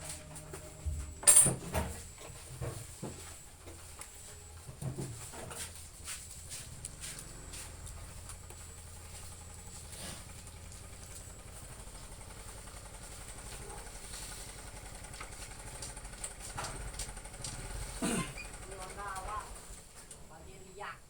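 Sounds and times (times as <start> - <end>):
engine idling rumble: 0.0 - 20.9.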